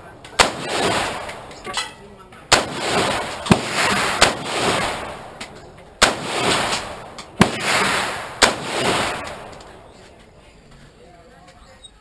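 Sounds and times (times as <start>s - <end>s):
sharp loud bangs with echo: 0.0s - 10.0s.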